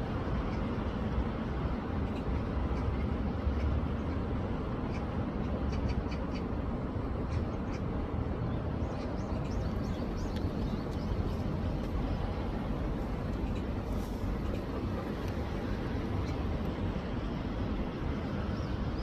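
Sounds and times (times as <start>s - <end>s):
rushing stream: 0.0s - 19.0s.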